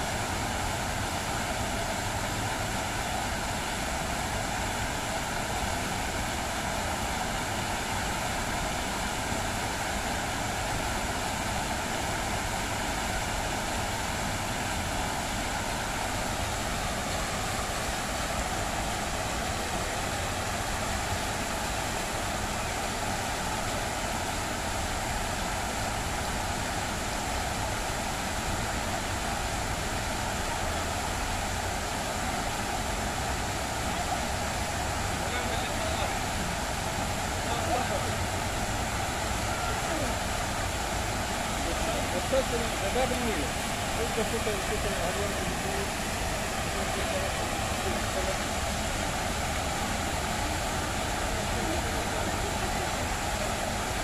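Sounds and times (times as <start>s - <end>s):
faint steady hum: 0.0s - 54.0s
fountain water splashing: 0.0s - 54.0s.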